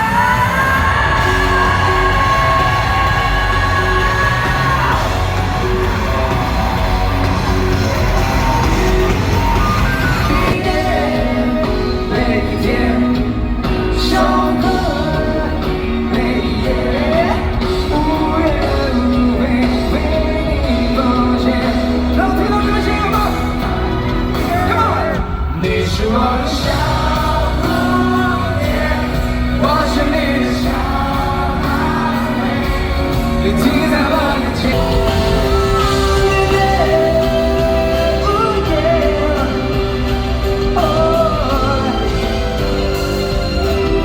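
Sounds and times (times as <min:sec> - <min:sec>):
loud live rock band: 0:00.0 - 0:44.0
person singing: 0:00.0 - 0:44.0.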